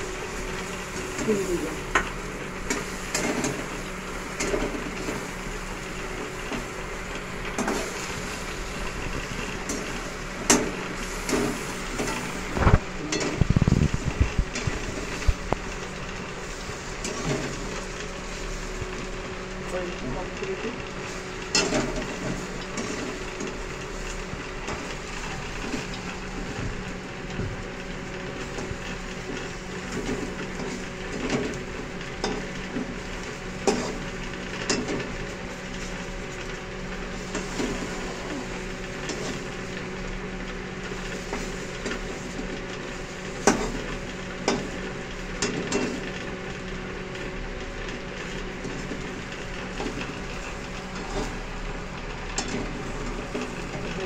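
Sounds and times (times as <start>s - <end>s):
chicken sizzling in oil: 0.0s - 19.7s, 20.8s - 54.0s.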